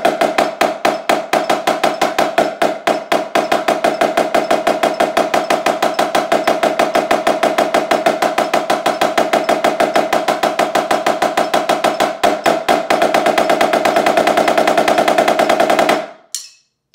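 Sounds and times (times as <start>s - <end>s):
snare drum played fast: 0.0s - 16.1s.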